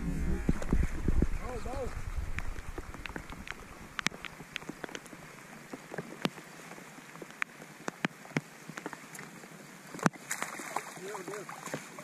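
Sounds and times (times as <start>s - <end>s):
rain falling on a lake: 0.0s - 12.0s
sharp taps of raindrops: 0.4s - 12.0s.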